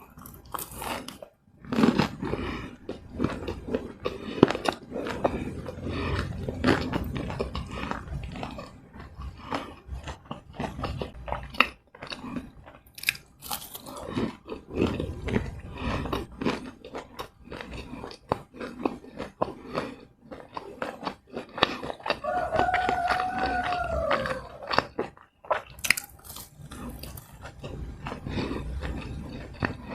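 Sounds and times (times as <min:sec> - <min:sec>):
crunching fried snacks: 0:00.0 - 0:29.9
wet chewing: 0:00.0 - 0:29.9.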